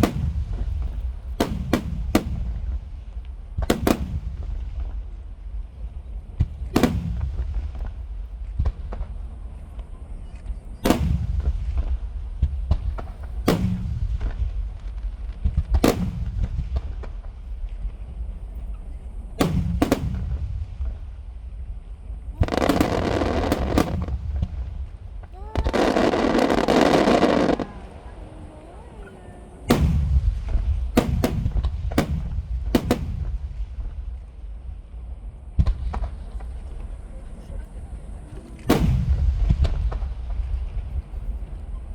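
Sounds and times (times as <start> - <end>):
firework pops and crackles: 0.0 - 5.3, 6.3 - 28.2, 28.8 - 34.7, 35.5 - 37.0, 38.4 - 41.9
firework booms: 0.0 - 41.9
low rumble of echoing explosions: 0.0 - 41.9.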